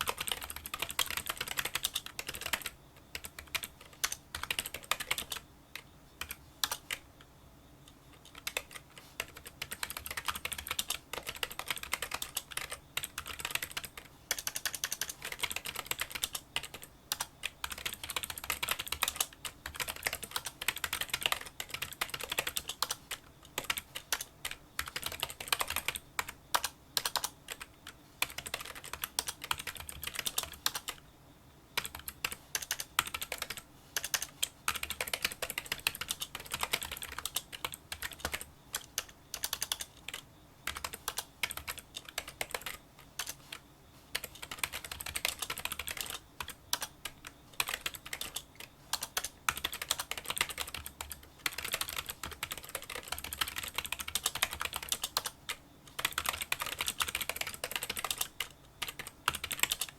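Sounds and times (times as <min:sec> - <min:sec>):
fast keyboard typing: 0:00.0 - 0:07.0, 0:08.1 - 0:31.0, 0:31.8 - 0:59.9.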